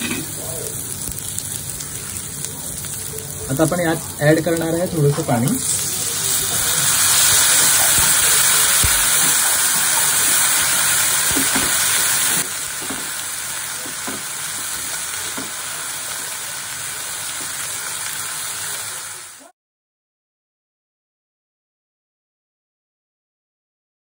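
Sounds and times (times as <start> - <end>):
water sizzling in hot pan: 0.0 - 19.5.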